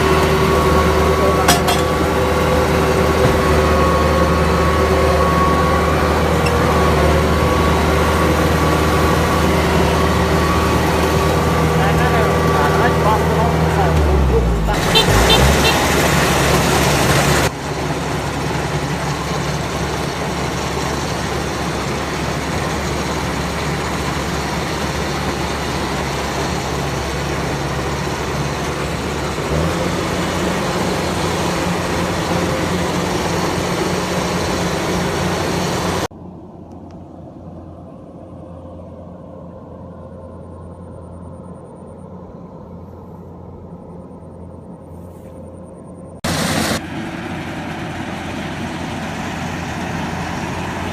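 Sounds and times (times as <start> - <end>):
farm machine engine running: 0.0 - 36.1, 46.1 - 50.9
loud mechanical noise: 0.0 - 36.1, 45.4 - 50.9.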